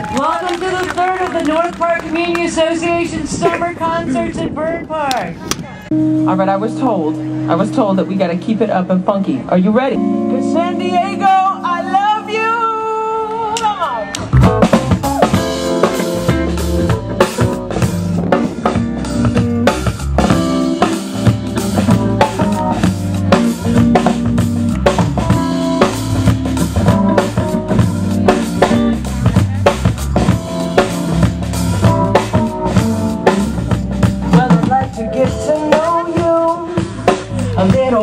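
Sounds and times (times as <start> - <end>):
live funk band playing: 0.0 - 38.0.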